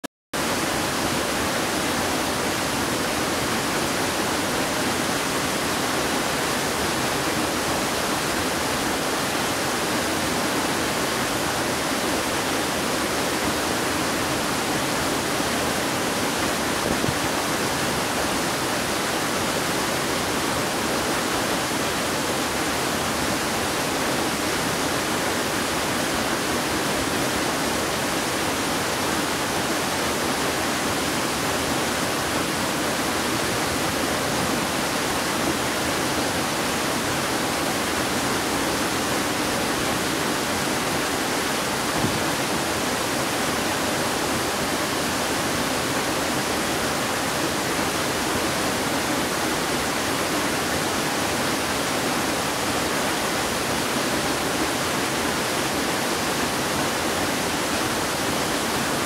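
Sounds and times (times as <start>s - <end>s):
waterfall rushing: 0.4s - 59.0s.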